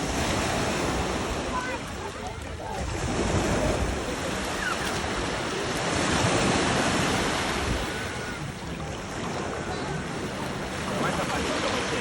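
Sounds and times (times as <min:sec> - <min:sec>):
surf washing onto shore: 0:00.0 - 0:12.0
wind rumbling on microphone: 0:00.0 - 0:12.0.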